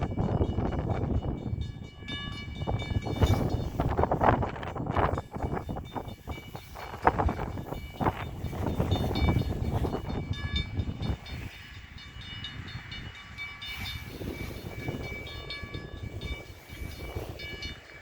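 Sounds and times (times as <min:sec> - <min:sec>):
crossing bell ringing: 0:00.0 - 0:18.0
diesel locomotives idling: 0:00.0 - 0:18.0.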